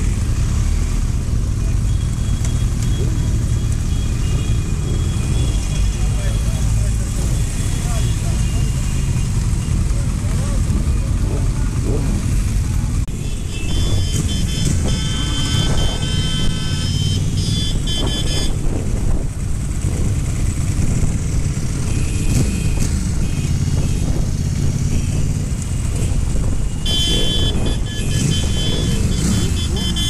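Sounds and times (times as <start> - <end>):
motorcycle engine rumble: 0.0 - 30.0
wind and road noise: 0.0 - 30.0.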